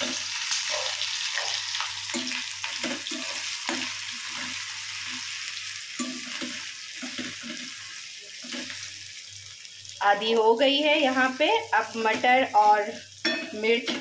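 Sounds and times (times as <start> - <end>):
ginger sizzling in hot oil: 0.0 - 14.0.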